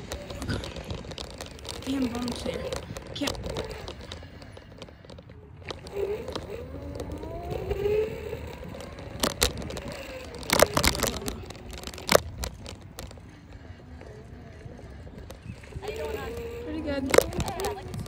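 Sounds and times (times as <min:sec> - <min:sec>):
scooter wheels rumbling on asphalt: 0:00.0 - 0:18.0
wheels knocking over cracks: 0:00.0 - 0:18.0.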